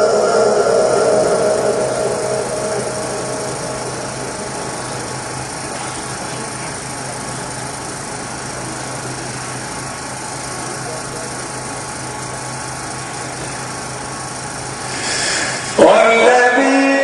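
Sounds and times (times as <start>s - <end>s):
rush of noise: 0.0s - 16.5s
low electrical hum: 0.0s - 17.0s
microphone line hiss: 0.0s - 17.0s.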